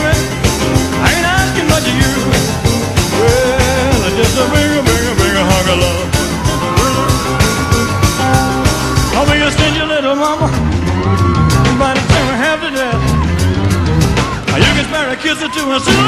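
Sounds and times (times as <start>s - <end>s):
upbeat rock and roll music: 0.0s - 16.0s.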